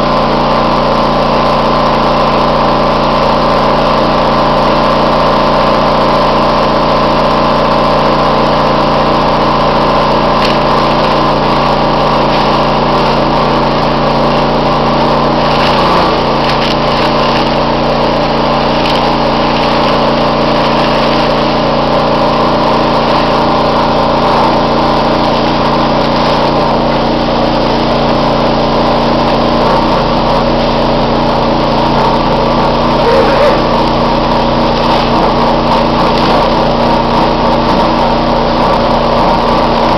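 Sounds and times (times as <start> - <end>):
machinery humming loudly: 0.0 - 39.9.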